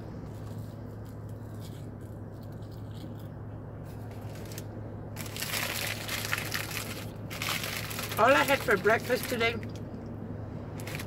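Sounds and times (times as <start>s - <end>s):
low hum inside a car: 0.0s - 11.0s.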